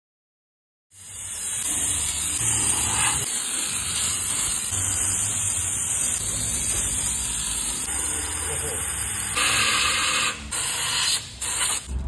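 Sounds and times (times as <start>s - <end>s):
steam cleaner hissing: 1.0s - 12.0s.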